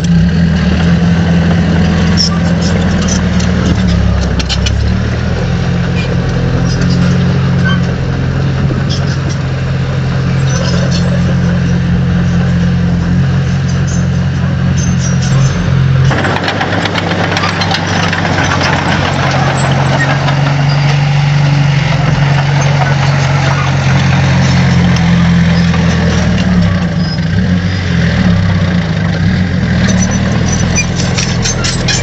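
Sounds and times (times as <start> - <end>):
heavy diesel engine running: 0.0 - 32.0
loud rough machine noise: 0.0 - 32.0.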